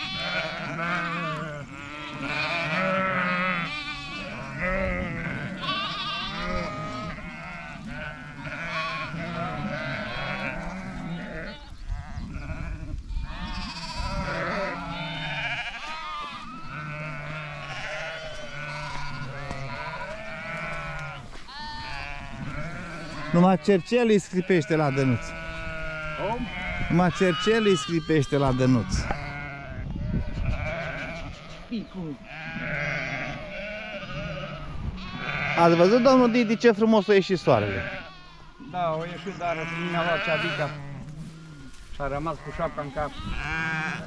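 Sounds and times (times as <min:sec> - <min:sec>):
ewes bleating: 0:00.0 - 0:44.0
lambs crying: 0:00.0 - 0:44.0.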